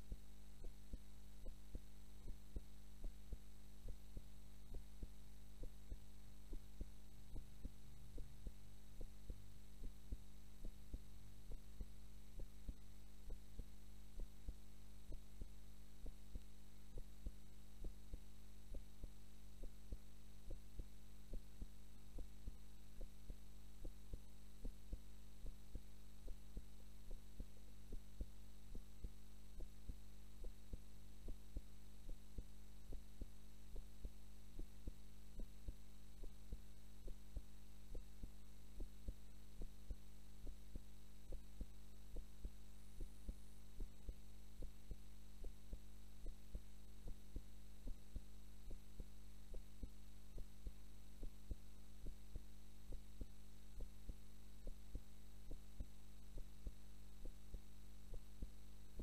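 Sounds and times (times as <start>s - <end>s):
heartbeat thuds: 0.0s - 59.0s
steady low hum: 0.0s - 59.0s.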